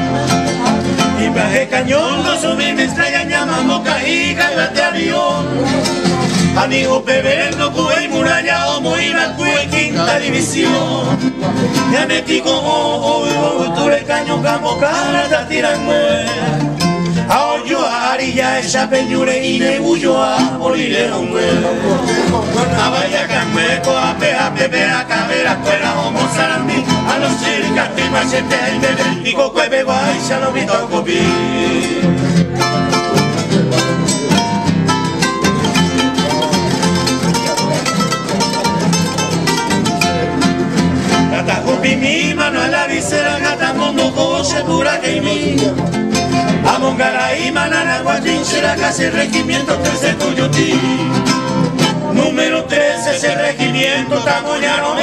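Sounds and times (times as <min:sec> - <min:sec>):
men singing: 0:00.0 - 0:34.5, 0:40.0 - 0:55.0
acoustic guitars strumming: 0:00.0 - 0:55.0.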